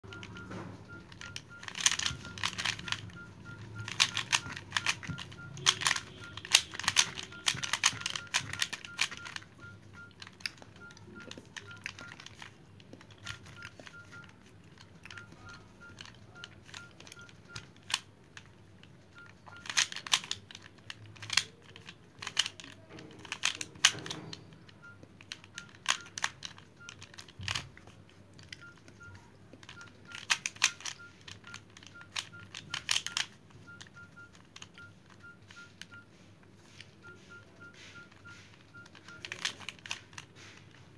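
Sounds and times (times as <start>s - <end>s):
puzzle cube clicking: 0.1s - 35.9s, 36.8s - 40.8s.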